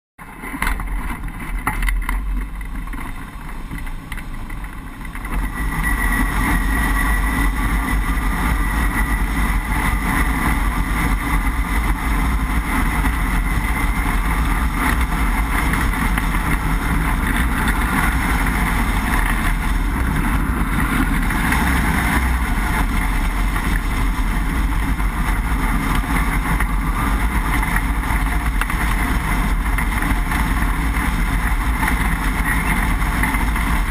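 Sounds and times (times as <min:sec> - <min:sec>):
wind rushing over microphone: 0:00.7 - 0:33.9.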